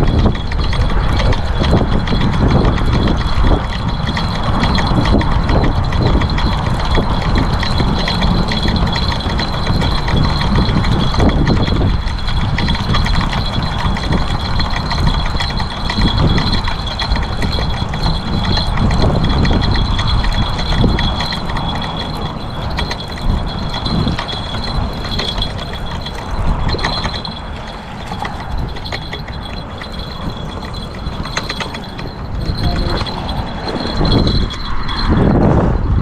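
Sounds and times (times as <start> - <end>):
fine rapid ticking: 0.0 - 35.3
wind buffeting microphone: 0.0 - 36.0.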